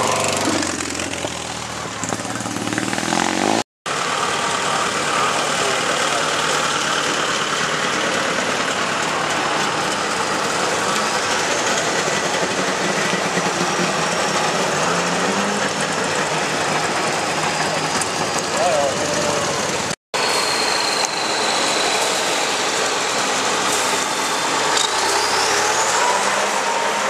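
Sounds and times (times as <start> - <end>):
two-stroke car engines passing: 0.0 - 27.0.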